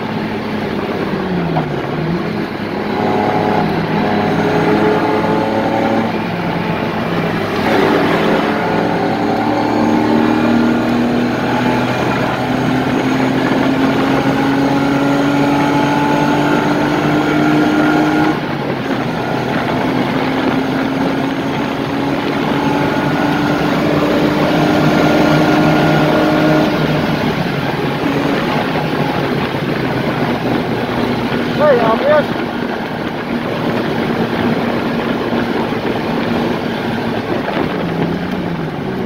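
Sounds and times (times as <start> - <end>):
car engine accelerating: 0.0 - 39.0
road noise: 0.0 - 39.0.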